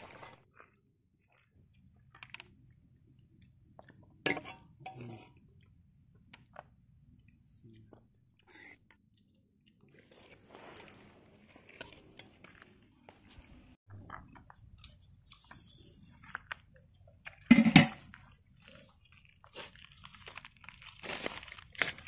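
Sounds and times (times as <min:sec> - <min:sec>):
chewing and light crunching: 0:00.4 - 0:22.0.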